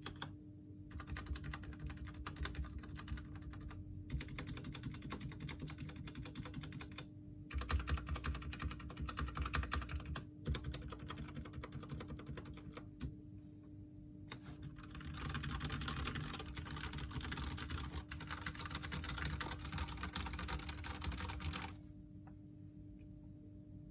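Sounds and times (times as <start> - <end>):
mechanical keyboard typing: 0.0 - 0.3, 0.9 - 13.1, 14.3 - 21.8.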